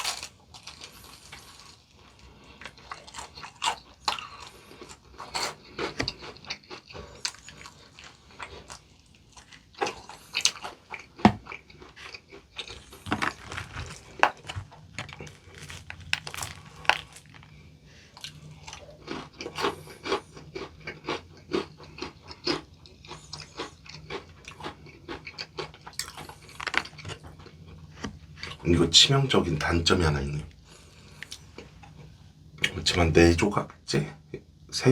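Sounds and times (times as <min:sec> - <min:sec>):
crunching and chewing fried chicken: 0:00.0 - 0:32.9.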